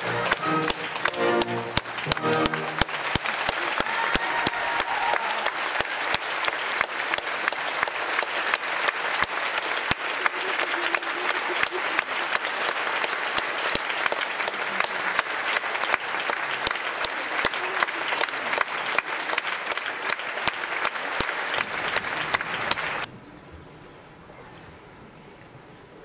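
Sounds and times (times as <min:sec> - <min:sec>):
audience applauding: 0:00.0 - 0:23.1.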